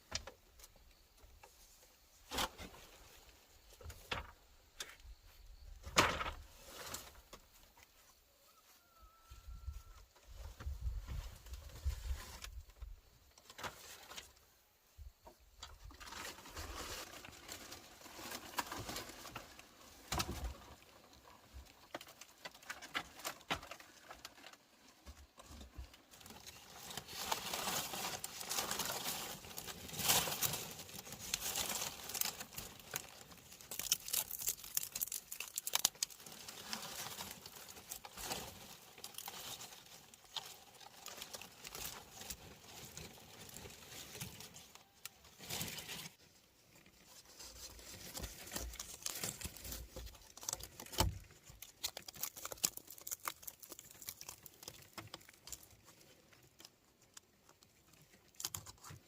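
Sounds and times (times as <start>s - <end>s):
rustling of dry material: 0.9s - 14.7s, 15.6s - 59.0s.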